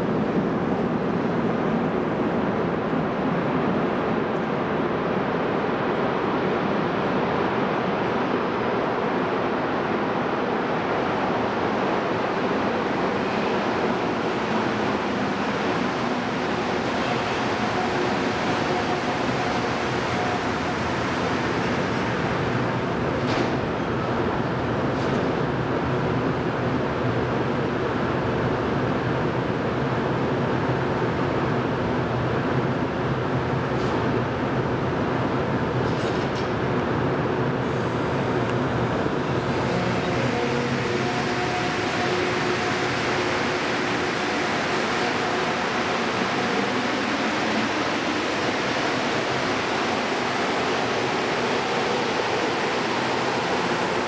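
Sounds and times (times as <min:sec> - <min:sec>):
train equipment hum and hiss: 0:00.0 - 0:54.0.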